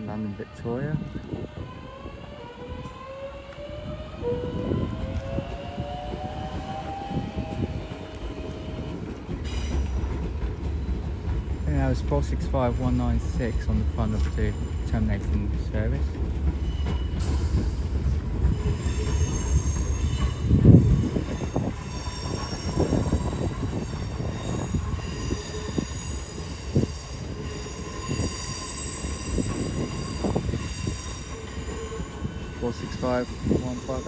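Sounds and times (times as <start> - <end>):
train rumble: 0.0 - 34.0
train wheels squealing: 0.0 - 34.0.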